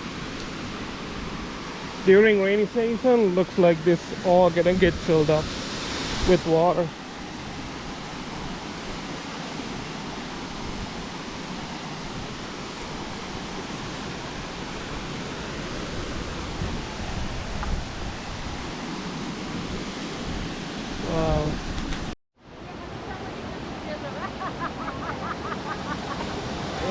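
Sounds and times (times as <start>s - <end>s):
waterfall rushing: 0.0s - 21.8s, 22.7s - 26.9s.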